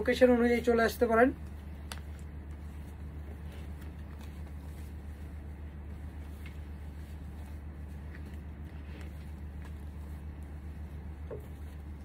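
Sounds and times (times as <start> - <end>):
faint rustling of shirts: 0.0 - 12.0
steady low hum: 0.0 - 12.0.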